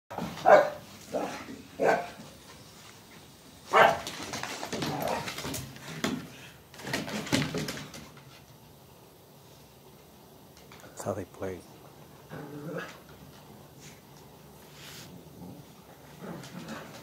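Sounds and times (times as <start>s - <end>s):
dogs barking and play-fighting: 0.1s - 9.1s, 11.8s - 17.0s.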